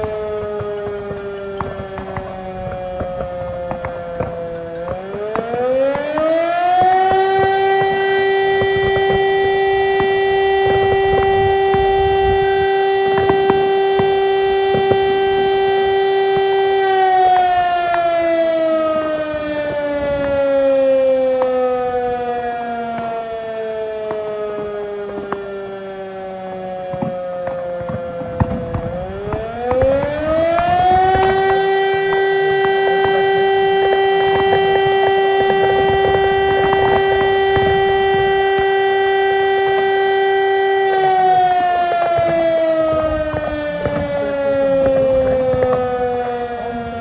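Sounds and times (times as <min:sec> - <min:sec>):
fire alarm siren wailing: 0:00.0 - 0:47.0.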